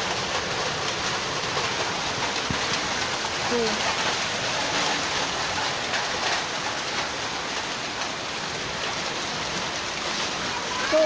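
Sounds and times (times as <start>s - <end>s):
hail and heavy rain: 0.0s - 11.0s.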